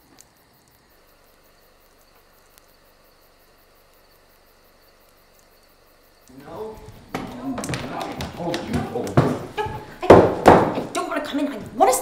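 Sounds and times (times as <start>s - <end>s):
soft high ticking: 0.0s - 10.1s.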